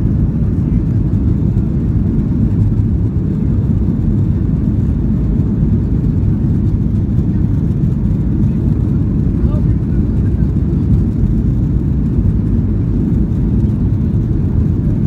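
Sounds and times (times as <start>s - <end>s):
jet cabin deep rumble: 0.0s - 15.0s.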